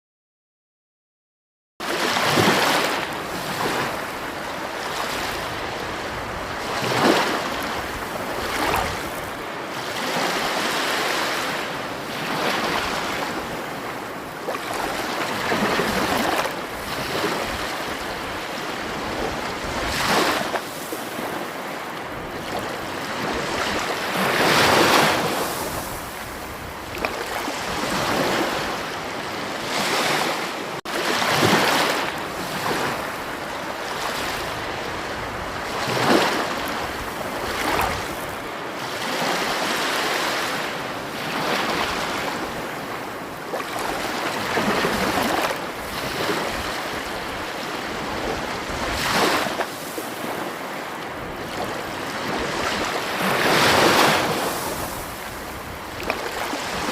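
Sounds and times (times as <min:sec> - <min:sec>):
sea waves washing onto shore: 0:01.8 - 0:56.9.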